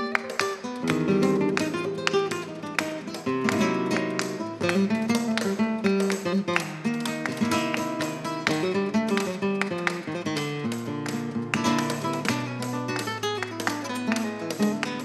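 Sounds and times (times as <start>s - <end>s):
acoustic guitars strummed: 0.0s - 15.0s.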